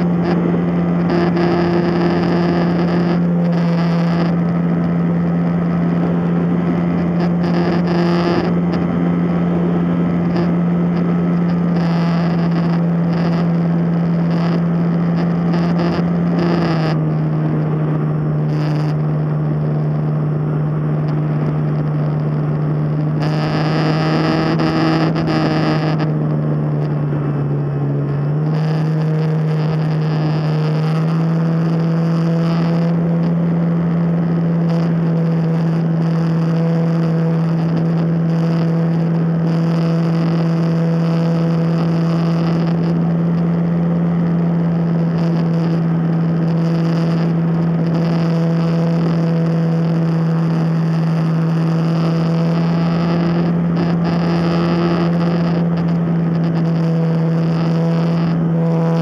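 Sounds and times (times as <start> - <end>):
drone propellers humming: 0.0 - 59.0.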